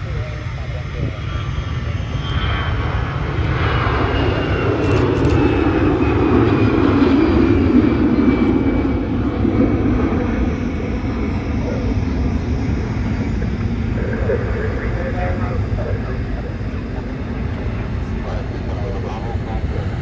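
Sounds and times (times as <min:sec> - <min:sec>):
airliner engines passing: 0:00.0 - 0:20.0
high engine whine: 0:00.0 - 0:20.0.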